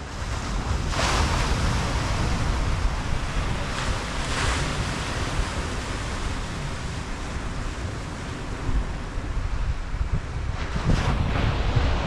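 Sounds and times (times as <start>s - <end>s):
sea surf washing over rocks: 0.0s - 12.0s
wind rumbling on microphone: 0.0s - 12.0s.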